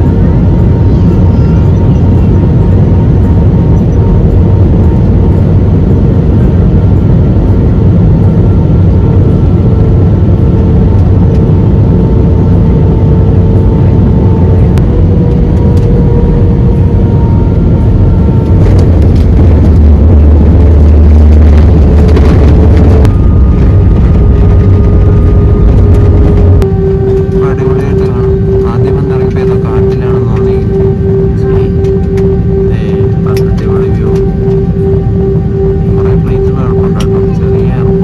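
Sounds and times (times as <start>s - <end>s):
aircraft cabin engine drone: 0.0s - 38.0s
steady whining tones: 0.0s - 38.0s.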